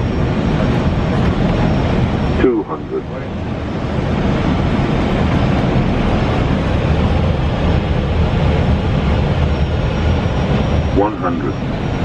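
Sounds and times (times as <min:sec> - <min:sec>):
aircraft cockpit engine rumble: 0:00.0 - 0:12.0.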